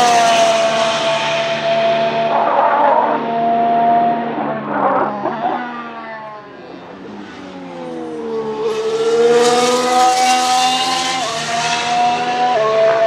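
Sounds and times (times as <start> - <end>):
race car engine accelerating past: 0.0 - 13.0.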